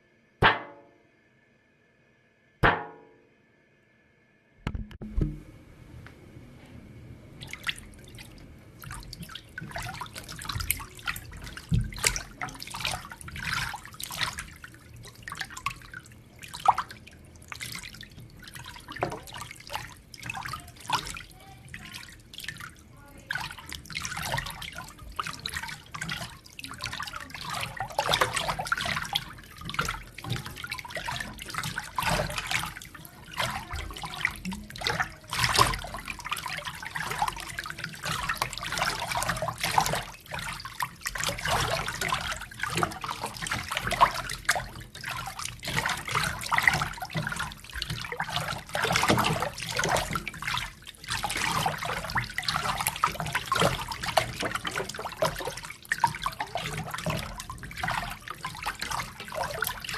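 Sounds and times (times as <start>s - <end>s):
water splashing and sloshing: 7.3s - 59.9s.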